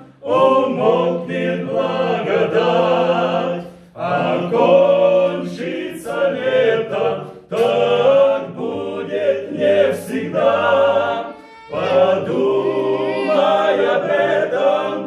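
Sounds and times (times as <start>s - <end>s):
male vocal group singing in harmony: 0.0s - 15.0s.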